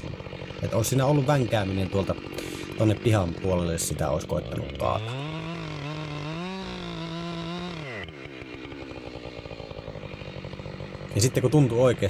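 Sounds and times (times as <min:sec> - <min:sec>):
chainsaw revving and idling: 0:00.0 - 0:12.0.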